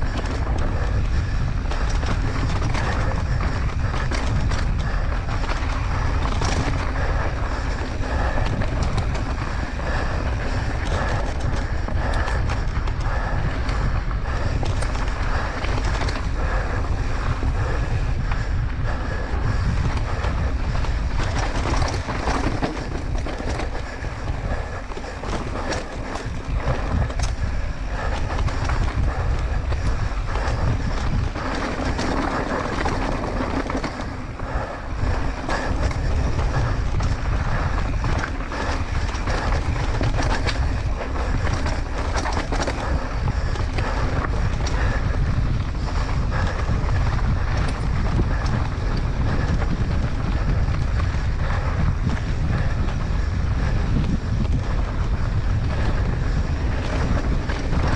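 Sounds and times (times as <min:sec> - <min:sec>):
bike rattling over rough trail: 0:00.0 - 0:57.9
wind buffeting microphone: 0:00.0 - 0:57.9.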